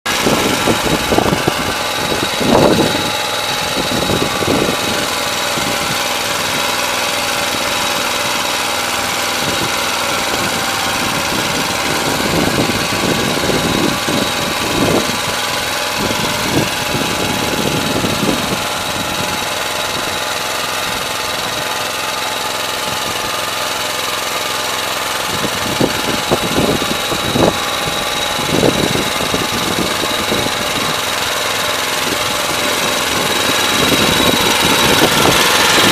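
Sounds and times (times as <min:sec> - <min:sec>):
tractor engine under load: 0:00.0 - 0:35.9.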